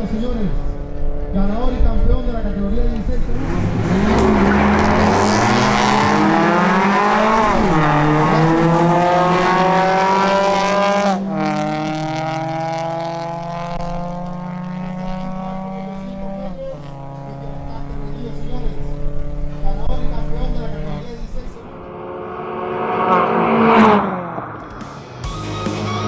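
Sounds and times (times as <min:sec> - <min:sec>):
car engines at full throttle: 0:00.0 - 0:26.0.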